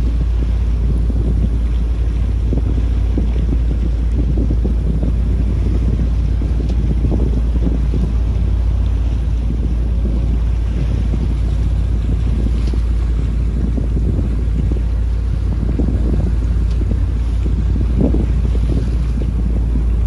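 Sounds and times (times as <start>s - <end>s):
steady low rumble: 0.0s - 20.0s
wind buffeting microphone: 0.0s - 20.0s.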